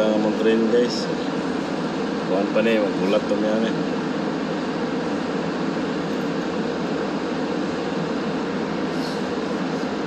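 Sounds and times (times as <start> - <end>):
metro car hum and hiss: 0.0 - 10.0.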